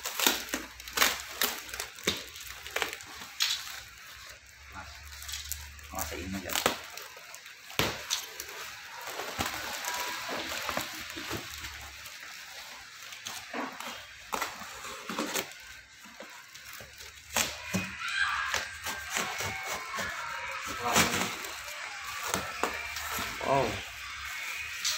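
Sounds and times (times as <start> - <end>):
plastic film crackling: 0.0 - 24.9
tape and cardboard ripping: 0.0 - 24.9.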